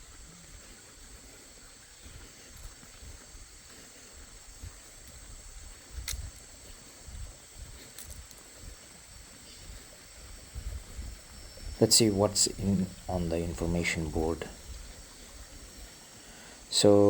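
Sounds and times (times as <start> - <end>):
wind rumbling on microphone: 0.0 - 16.8
high-pitched insect drone: 0.1 - 17.0.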